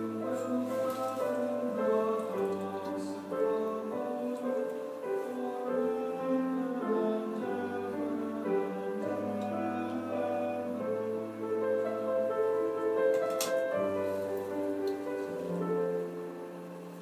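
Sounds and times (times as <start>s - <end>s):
slow instrumental keyboard music: 0.0s - 17.0s.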